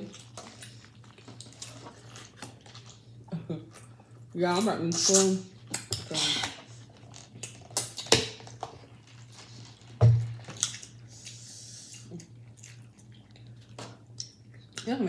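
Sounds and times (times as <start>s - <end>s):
chewing: 0.0s - 4.2s, 5.6s - 14.9s
low steady hum: 0.0s - 15.0s.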